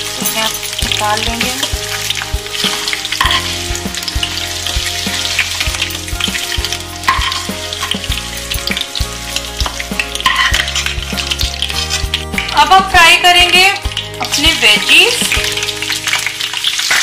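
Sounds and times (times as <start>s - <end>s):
cheese sizzling in hot oil: 0.0s - 17.0s.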